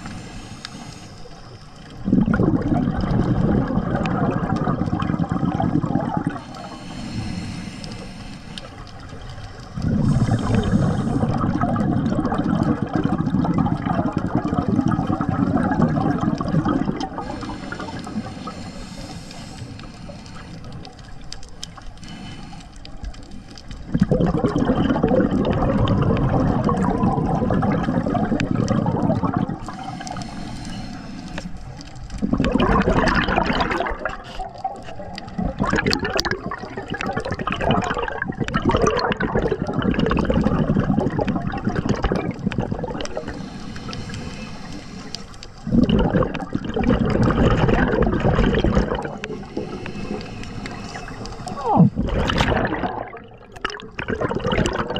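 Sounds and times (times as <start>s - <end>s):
diver's bubbles rushing underwater: 1.9s - 7.8s, 8.7s - 18.9s, 23.8s - 54.9s.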